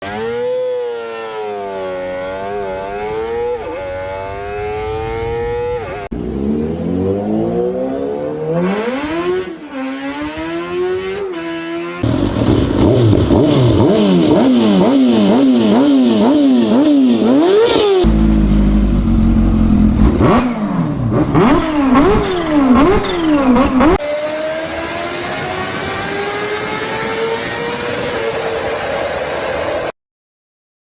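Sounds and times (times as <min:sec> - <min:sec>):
motorcycle exhaust revving: 0:00.1 - 0:29.0.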